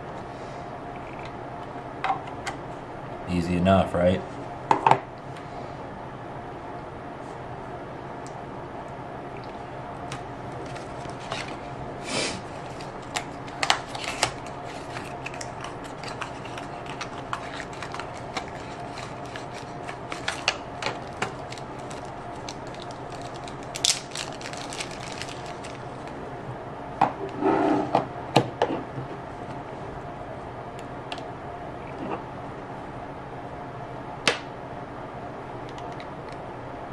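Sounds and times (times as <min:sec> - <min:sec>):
faint hum: 0:00.0 - 0:36.9.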